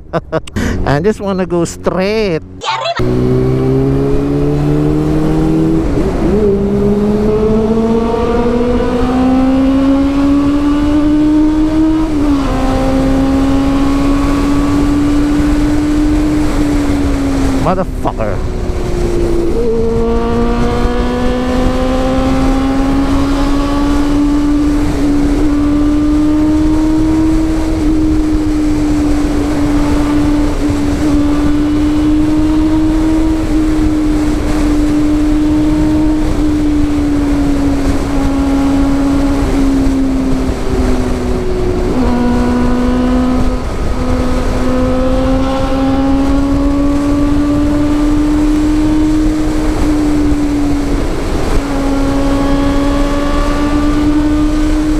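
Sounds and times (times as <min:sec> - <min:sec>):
motorcycle engine at high revs: 0:01.8 - 0:54.9.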